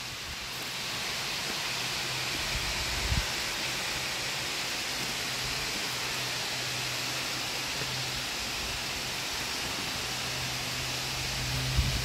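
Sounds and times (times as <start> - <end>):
waterfall hissing: 0.0 - 12.0.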